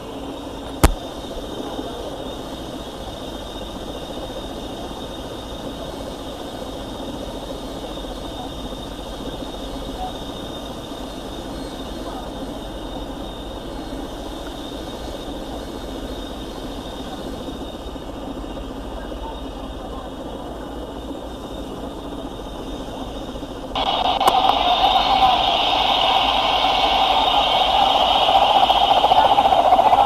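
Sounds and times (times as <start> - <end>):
helicopter turbine and rotor hum: 0.0 - 30.0.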